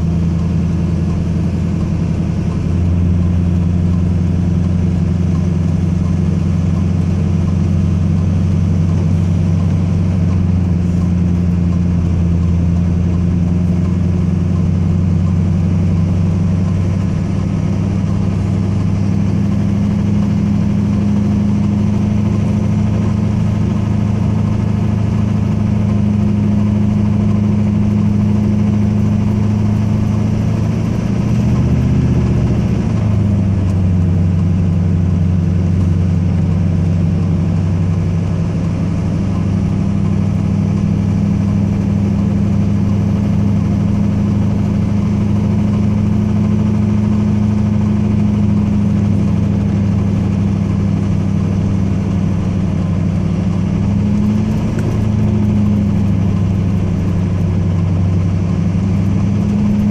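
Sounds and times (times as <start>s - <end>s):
pickup engine under heavy load: 0.0s - 59.9s.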